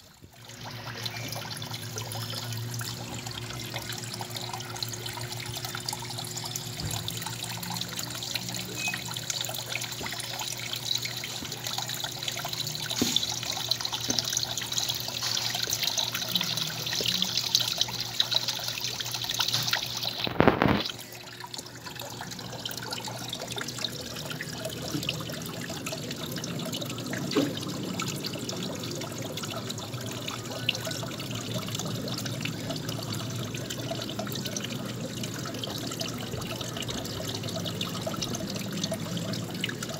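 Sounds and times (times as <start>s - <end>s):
water trickling and lapping: 0.0s - 39.9s.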